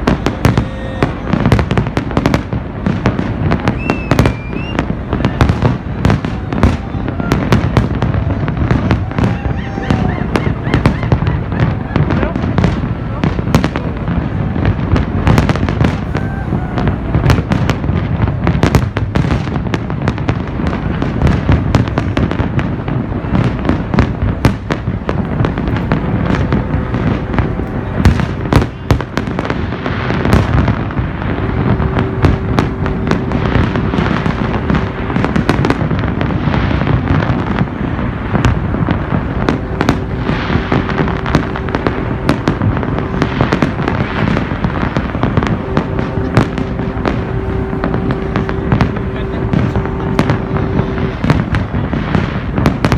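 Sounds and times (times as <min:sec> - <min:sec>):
fireworks booming and crackling: 0:00.0 - 0:52.9
low rumble: 0:00.0 - 0:52.9.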